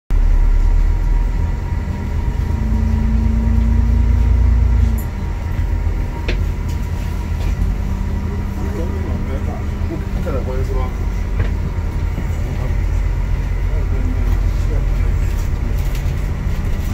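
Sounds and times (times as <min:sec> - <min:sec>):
bus engine rumble: 0:00.1 - 0:16.9.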